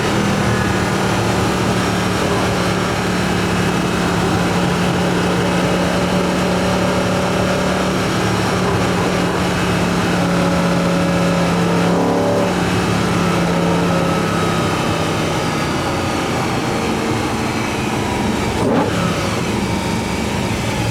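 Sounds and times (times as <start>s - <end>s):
car engine induction roar: 0.0s - 20.9s.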